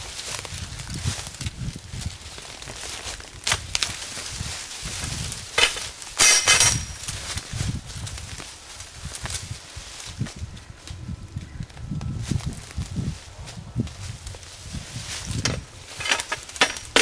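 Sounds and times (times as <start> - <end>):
dirt scattering onto leaves: 0.0 - 17.0
dry leaves rustling and crackling: 0.0 - 17.0.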